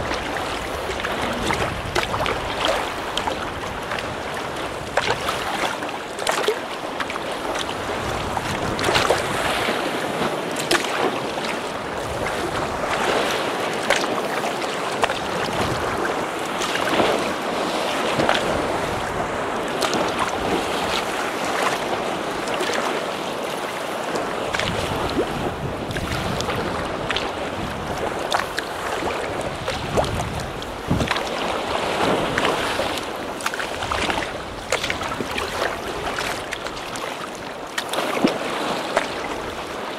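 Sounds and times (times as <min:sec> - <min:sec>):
wind on microphone: 0:00.0 - 0:06.2, 0:06.9 - 0:39.9
water splashing against kayak hull: 0:00.0 - 0:39.9.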